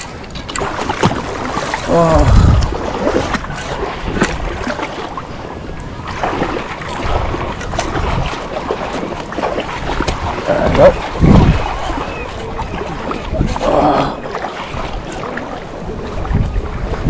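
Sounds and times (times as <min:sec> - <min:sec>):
flowing river water: 0:00.0 - 0:17.0
wind buffeting microphone: 0:00.0 - 0:17.0.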